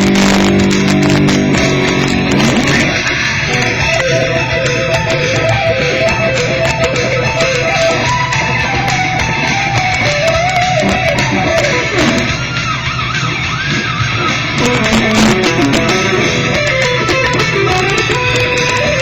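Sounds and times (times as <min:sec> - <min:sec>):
distorted electric guitar solo: 0:00.0 - 0:19.0
recorded heavy metal guitar solo: 0:00.0 - 0:19.0.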